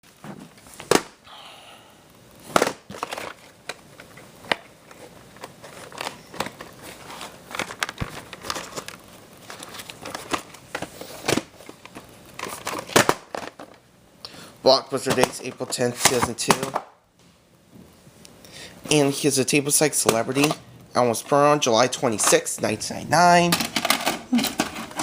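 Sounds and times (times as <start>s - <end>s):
crinkling and crackling handling: 2.4s - 13.9s, 14.9s - 16.8s, 18.2s - 25.0s.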